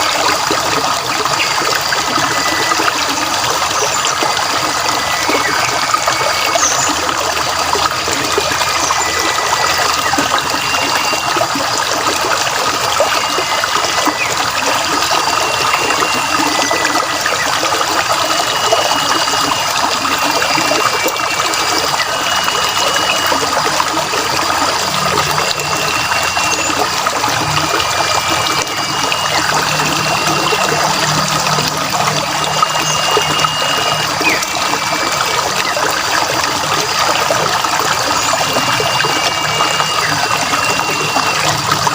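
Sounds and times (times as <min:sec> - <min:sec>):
water trickling in a stream: 0:00.0 - 0:41.9
birds whistling: 0:02.2 - 0:11.5, 0:13.0 - 0:36.8, 0:37.9 - 0:41.9.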